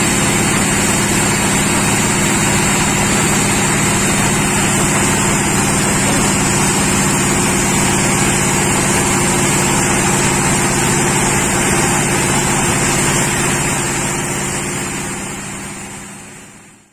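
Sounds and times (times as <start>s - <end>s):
high machine whine: 0.0s - 16.9s
sawmill engine hum: 0.0s - 16.9s.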